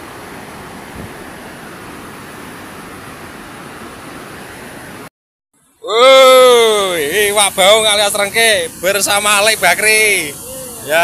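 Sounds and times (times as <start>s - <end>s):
river water rushing through a weir: 0.0s - 5.1s, 6.0s - 11.0s.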